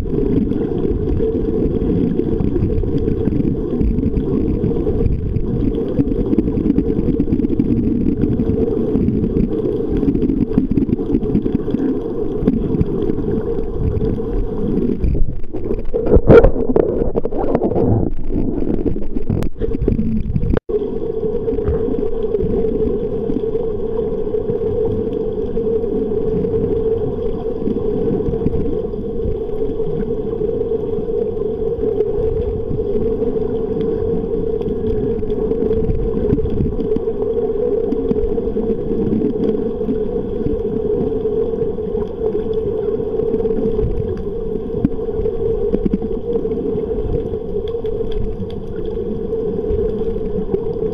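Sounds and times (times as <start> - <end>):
underwater low drone: 0.0 - 50.9.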